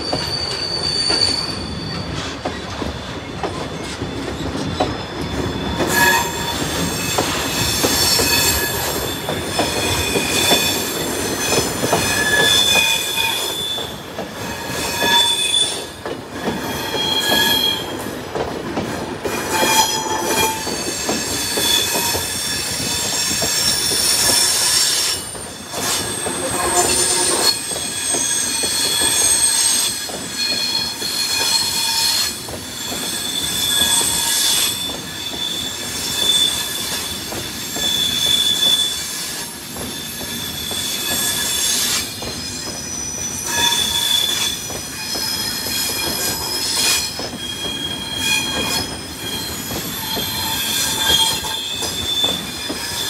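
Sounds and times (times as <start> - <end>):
train running noise: 0.0 - 53.0
train wheels squealing: 0.0 - 53.0.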